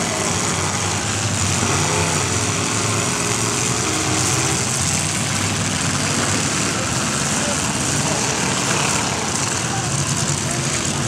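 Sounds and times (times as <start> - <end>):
car engines revving together: 0.0 - 11.0.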